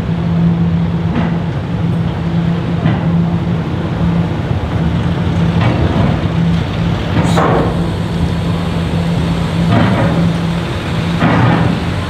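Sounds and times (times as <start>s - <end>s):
low engine drone: 0.0s - 12.0s
vans driving: 0.0s - 12.0s.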